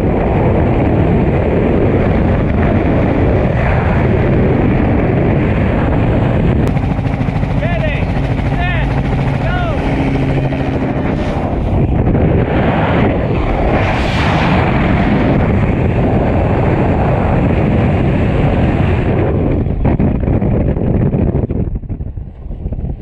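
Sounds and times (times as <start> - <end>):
helicopter hum: 0.0 - 23.0
wind rushing over microphone: 0.0 - 23.0.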